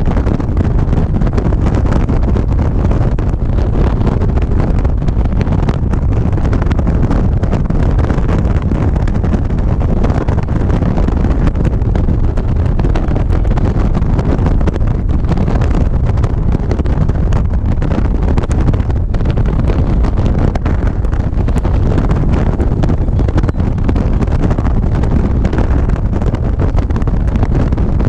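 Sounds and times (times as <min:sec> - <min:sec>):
motorcycle running: 0:00.0 - 0:28.0
road noise: 0:00.0 - 0:28.0
wind buffeting microphone: 0:00.0 - 0:28.0.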